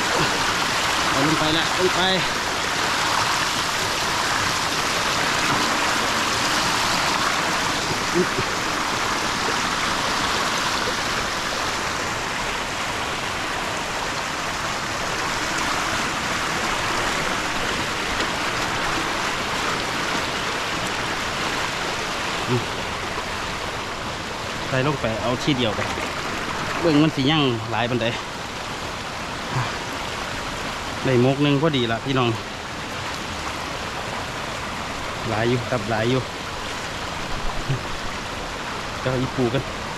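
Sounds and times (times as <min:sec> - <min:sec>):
flowing storm water: 0:00.0 - 0:39.9.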